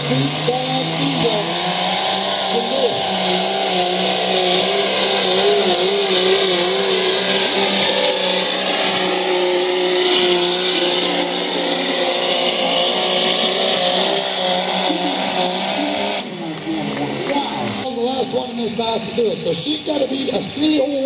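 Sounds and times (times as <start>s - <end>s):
diesel truck engine at full load: 0.0s - 21.0s.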